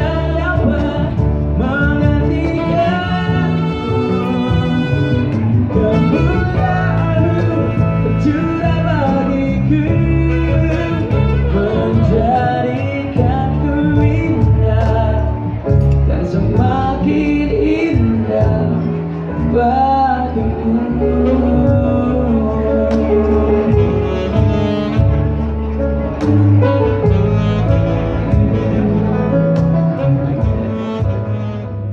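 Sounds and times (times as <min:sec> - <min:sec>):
man singing a slow ballad: 0:00.0 - 0:27.5
live band playing: 0:00.0 - 0:31.9.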